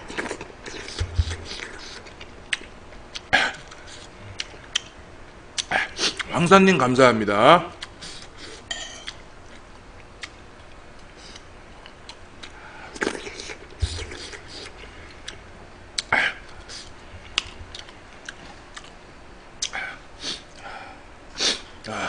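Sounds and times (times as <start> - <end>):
man chewing and smacking lips: 0.0 - 5.0, 5.6 - 6.3, 7.8 - 19.0, 19.6 - 20.7.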